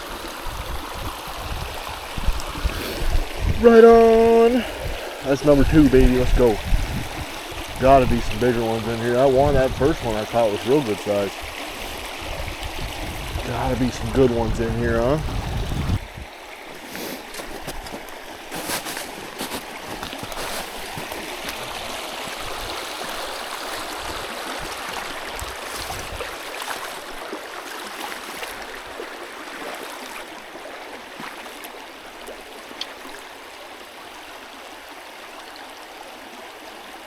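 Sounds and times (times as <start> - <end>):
stream running over rocks: 0.0 - 37.0.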